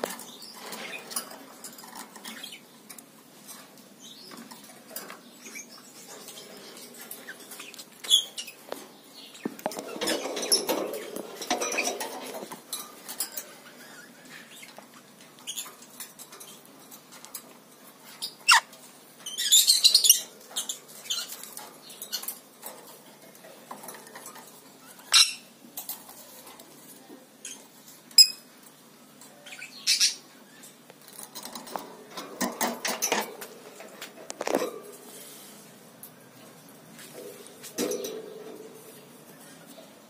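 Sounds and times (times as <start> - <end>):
bird beak and feet on cage bars: 0.0 - 40.0.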